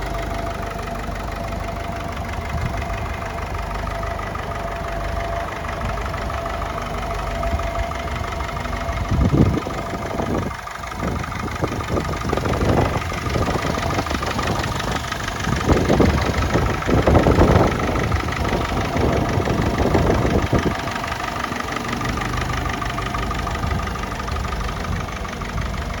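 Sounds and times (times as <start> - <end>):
tractor engine idling and revving: 0.0 - 26.0.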